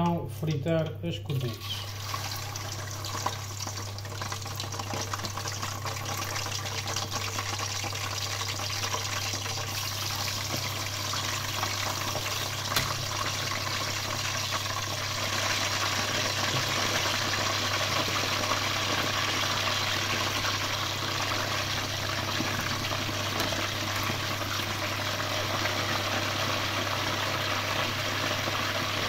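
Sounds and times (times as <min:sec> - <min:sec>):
sizzling and crackling in hot oil: 0:01.5 - 0:29.0.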